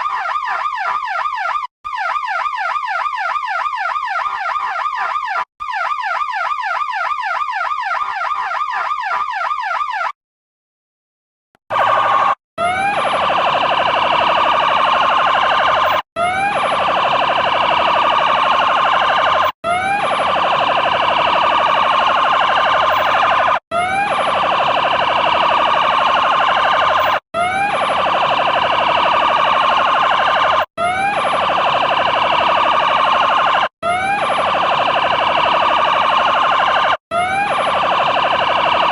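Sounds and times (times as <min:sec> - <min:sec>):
electronic siren yelping: 0:00.0 - 0:10.2, 0:11.7 - 0:38.9.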